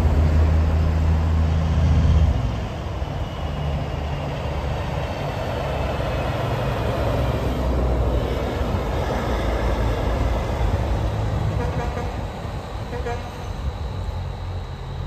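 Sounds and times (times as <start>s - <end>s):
truck driving past: 0.0s - 15.0s.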